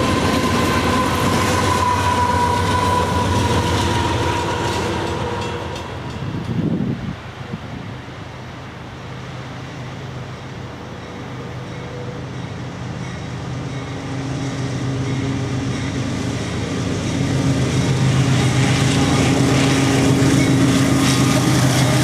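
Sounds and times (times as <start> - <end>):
locomotive engine humming: 0.0 - 22.0.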